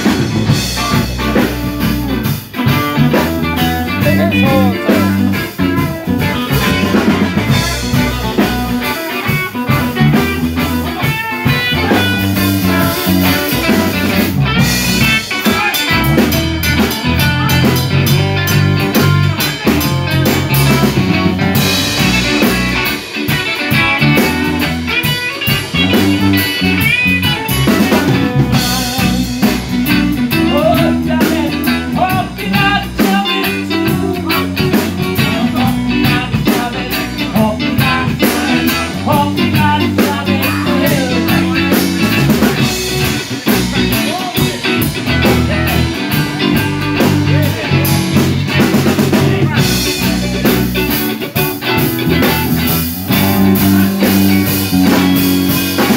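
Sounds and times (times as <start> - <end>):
rock band playing: 0.0 - 55.9.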